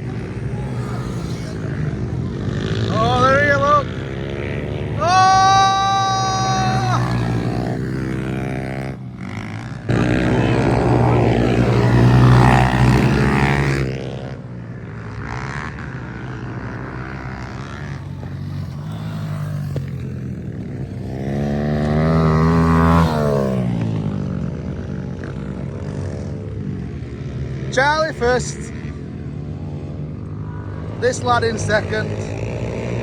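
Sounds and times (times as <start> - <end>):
bike revving: 0.0 - 33.0
pit bike engines running: 0.0 - 33.0.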